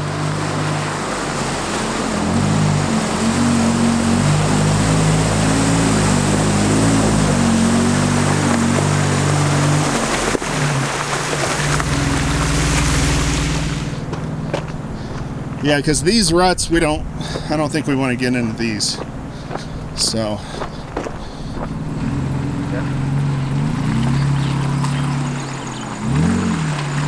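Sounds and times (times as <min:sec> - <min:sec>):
engine running under load: 0:00.0 - 0:27.0
muddy water splashing: 0:00.0 - 0:27.0.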